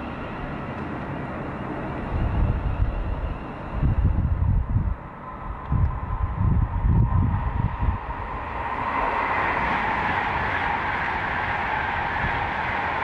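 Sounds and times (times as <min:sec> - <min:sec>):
passenger train passing: 0:00.0 - 0:13.0
wind buffeting microphone: 0:00.0 - 0:13.0.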